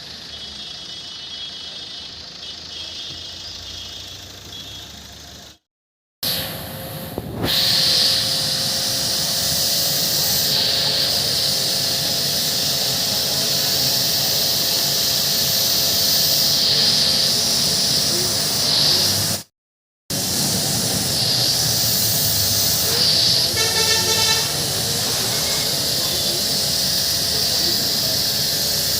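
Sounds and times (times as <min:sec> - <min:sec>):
pressure washer spraying water: 0:00.0 - 0:04.9, 0:06.3 - 0:19.5, 0:20.1 - 0:28.9.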